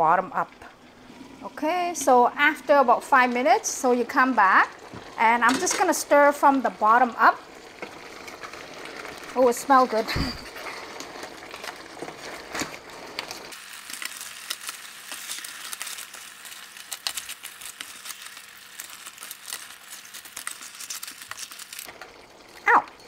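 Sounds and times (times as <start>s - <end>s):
sauce sizzling in a pan: 0.5s - 22.8s.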